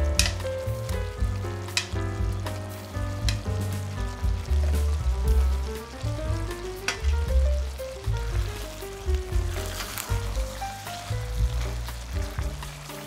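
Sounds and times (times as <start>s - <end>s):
food sizzling in a pan: 0.0s - 13.0s
music with pulsing bassline: 0.0s - 13.0s.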